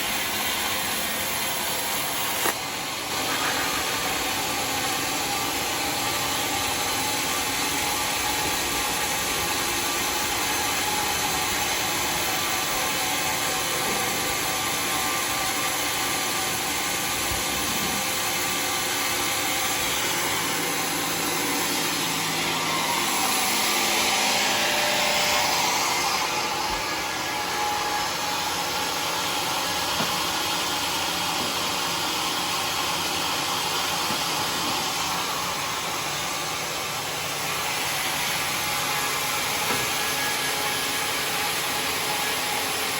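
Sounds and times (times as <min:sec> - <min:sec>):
sawmill running: 0:00.0 - 0:42.9.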